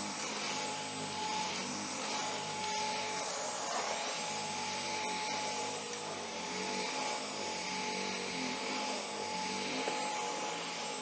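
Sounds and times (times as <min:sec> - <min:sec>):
stick vacuum whining: 0:00.0 - 0:11.0.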